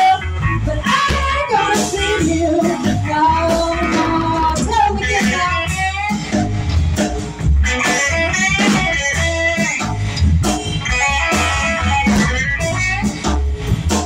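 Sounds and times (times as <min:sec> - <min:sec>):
drum kit: 0:00.0 - 0:14.0
electric guitar lead: 0:00.0 - 0:14.0
upright bass: 0:00.0 - 0:14.0.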